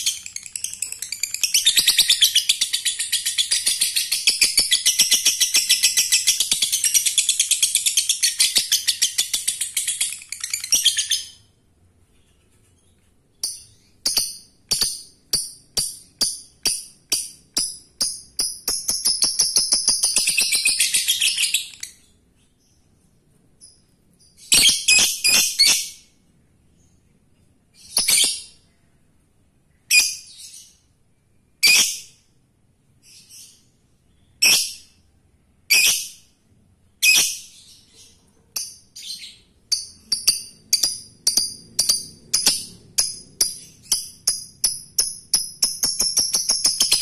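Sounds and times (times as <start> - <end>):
lovebird chirping: 0.0 - 29.0, 29.7 - 32.2, 33.0 - 47.0.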